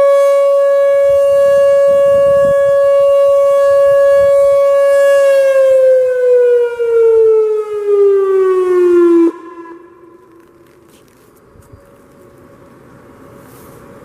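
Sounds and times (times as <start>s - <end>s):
outdoor warning siren: 0.0s - 13.1s
faint distant sirens: 0.0s - 14.0s.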